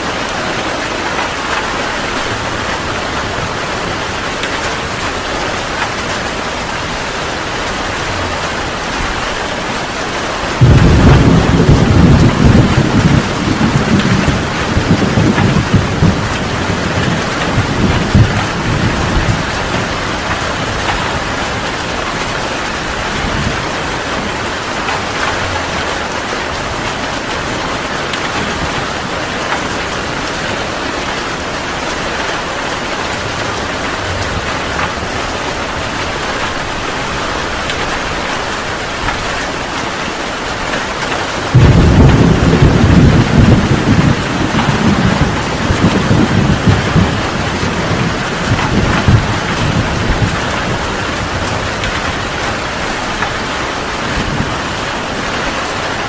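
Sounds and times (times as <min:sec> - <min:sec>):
heavy rain falling: 0:00.0 - 0:56.0
thunder rumbling: 0:00.0 - 0:56.0.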